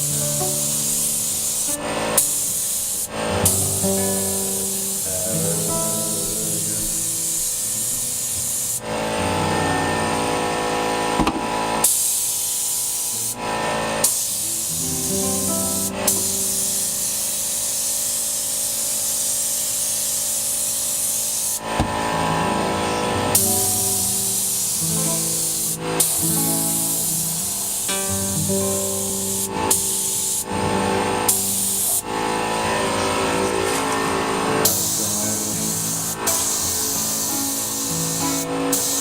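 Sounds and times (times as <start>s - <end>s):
spray paint hissing: 0.0s - 8.9s, 11.8s - 39.0s
music with sustained notes: 0.0s - 11.9s, 13.1s - 17.6s, 21.6s - 39.0s.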